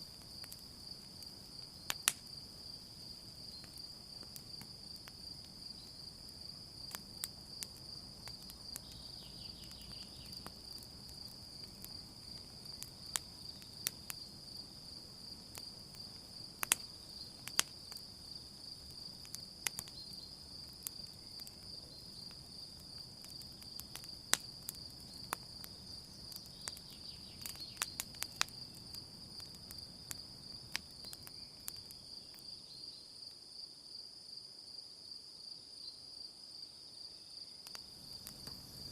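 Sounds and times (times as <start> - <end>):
campfire crackling and popping: 0.0 - 32.4, 37.6 - 38.9
crickets chirring: 0.0 - 38.9.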